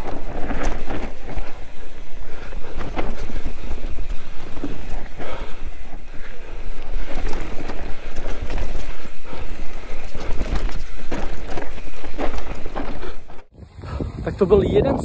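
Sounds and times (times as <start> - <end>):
bike rattling over bumps: 0.0 - 14.2
wind rumbling on microphone: 0.0 - 15.0.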